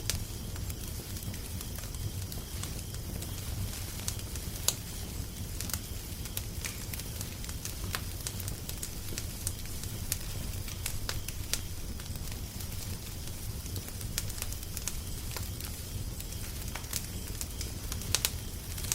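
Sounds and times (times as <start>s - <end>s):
low rumble of fire: 0.0s - 18.9s
wood fire crackling: 0.0s - 18.9s.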